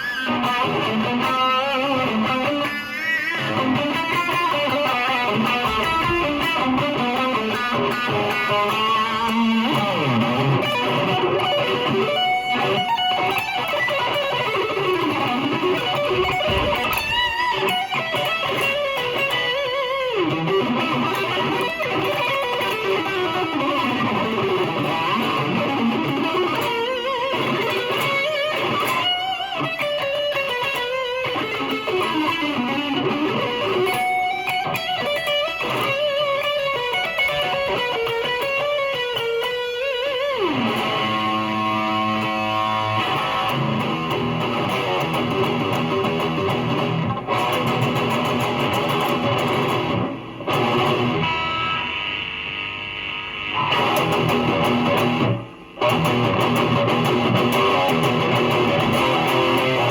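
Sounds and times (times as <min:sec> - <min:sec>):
electric guitar: 0:00.0 - 0:59.9.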